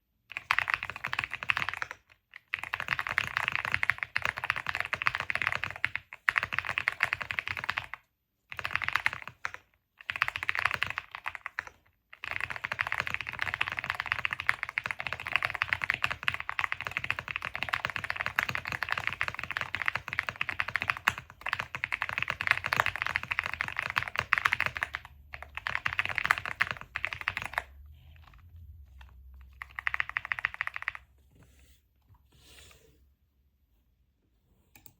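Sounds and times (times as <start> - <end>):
fast keyboard typing: 0.3 - 31.1.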